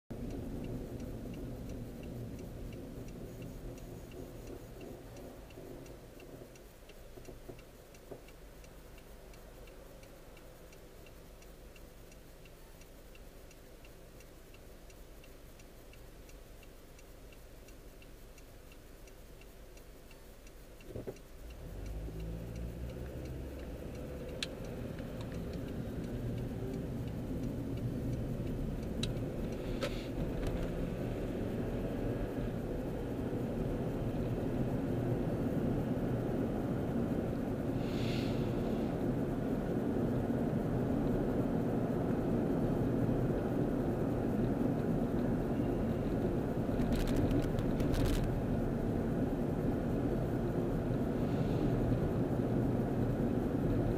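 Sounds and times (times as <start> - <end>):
car engine idling and revving: 0.0 - 53.9
turn-signal indicator ticking: 0.1 - 53.9.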